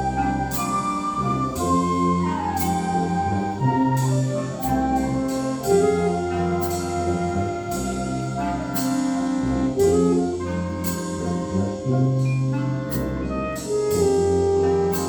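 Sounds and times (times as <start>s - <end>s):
wind band playing: 0.0s - 15.0s.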